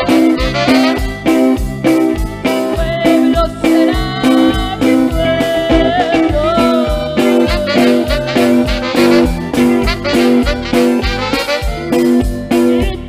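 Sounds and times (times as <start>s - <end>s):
drum kit beat: 0.0s - 13.0s
electronic keyboards: 0.0s - 13.0s
repeating bass line: 0.0s - 13.0s
sliding lead melody: 0.0s - 13.0s.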